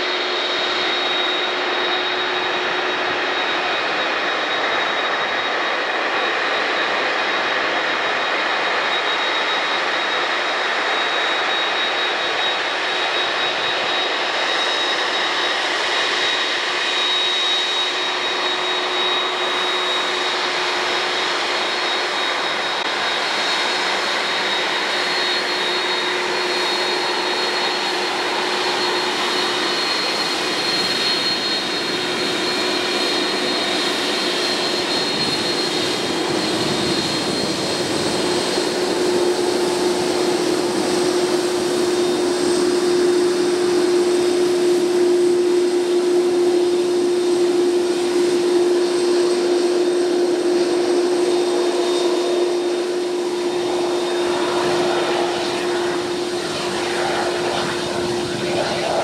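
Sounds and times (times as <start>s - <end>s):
jet engines with high whine: 0.0s - 59.0s.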